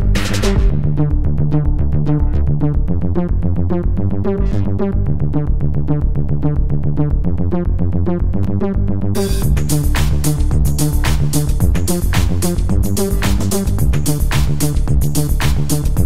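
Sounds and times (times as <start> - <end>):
electronic music with bass: 0.0 - 16.0.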